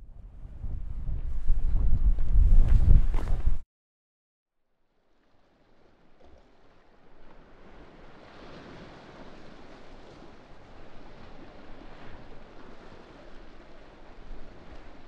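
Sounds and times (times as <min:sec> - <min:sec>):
rushing wind and water: 0:00.0 - 0:03.6, 0:05.1 - 0:15.0.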